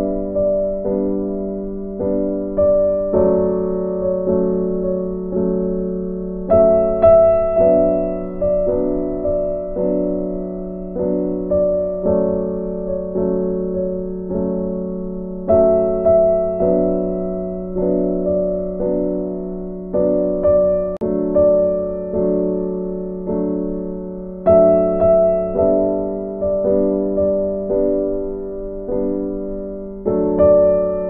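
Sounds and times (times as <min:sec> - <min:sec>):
slow keyboard melody: 0:00.0 - 0:31.0.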